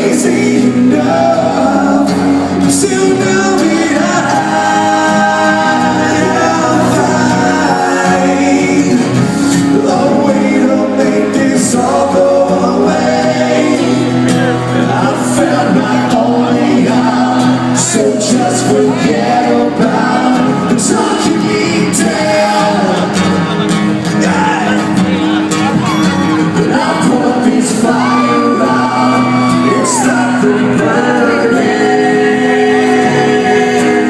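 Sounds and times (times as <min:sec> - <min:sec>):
hard rock band playing: 0:00.0 - 0:34.0
person singing: 0:00.0 - 0:34.0.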